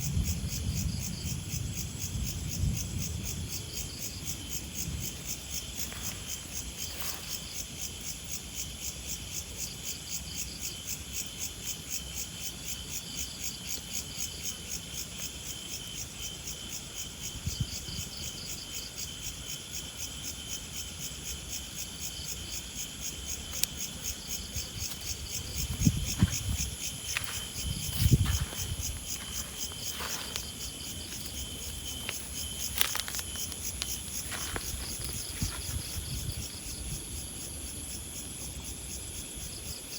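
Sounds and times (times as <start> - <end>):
insects chirping in grass: 0.0 - 39.9.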